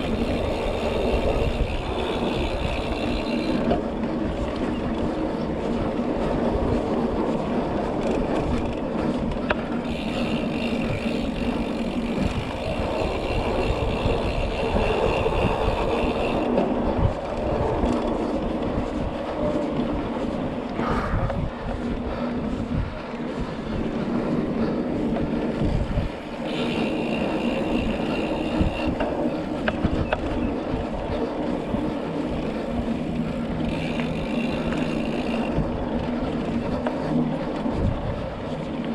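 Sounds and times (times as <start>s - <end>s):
bike tyres rolling on dirt: 0.0s - 38.9s
wind noise: 0.0s - 38.9s.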